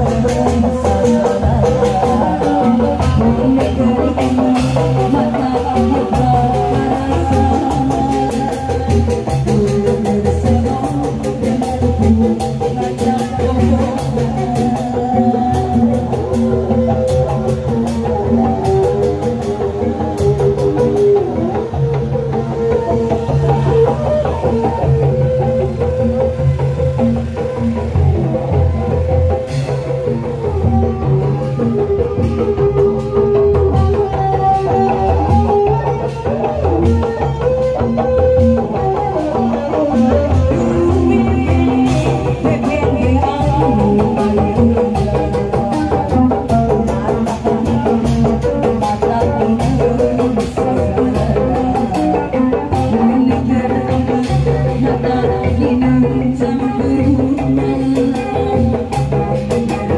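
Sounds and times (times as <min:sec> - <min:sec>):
instrumental band music: 0:00.0 - 0:59.9
steady drum beat: 0:00.0 - 0:59.9.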